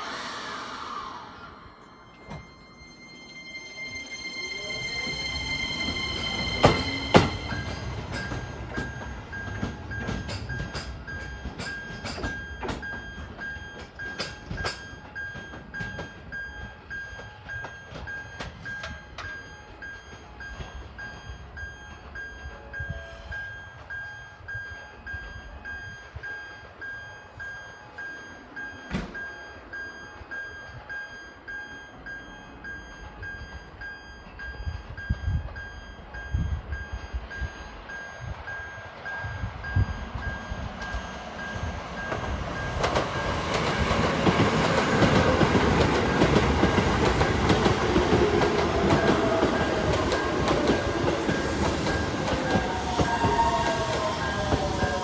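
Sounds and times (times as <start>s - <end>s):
high held tone: 0.2s - 26.4s, 27.0s - 55.0s
electronic warning signal beeping: 1.3s - 55.0s
train wheels clicking over rail joints: 5.8s - 31.7s, 32.3s - 55.0s.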